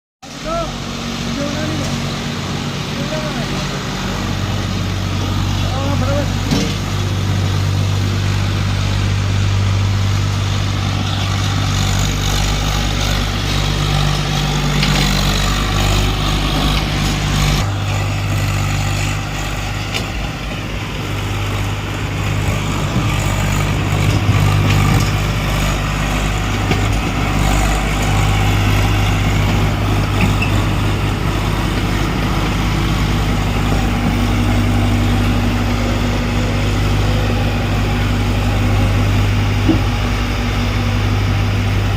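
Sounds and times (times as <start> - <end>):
bulldozer diesel engine running: 0.2 - 41.9.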